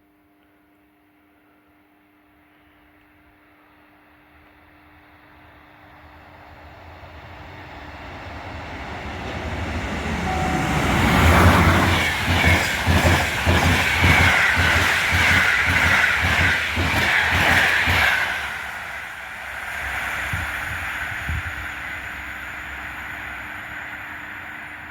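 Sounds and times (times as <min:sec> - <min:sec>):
train passing at speed: 0:04.4 - 0:24.9.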